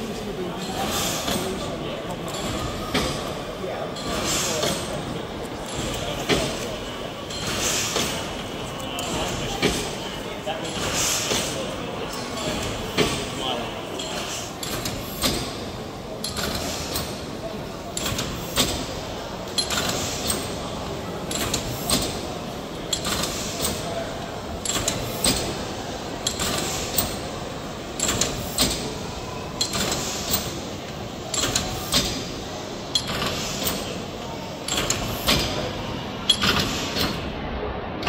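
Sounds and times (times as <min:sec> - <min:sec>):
steady background hum: 0:00.0 - 0:38.0
visitors murmuring: 0:00.0 - 0:38.0
steam engine clicking: 0:04.0 - 0:37.3.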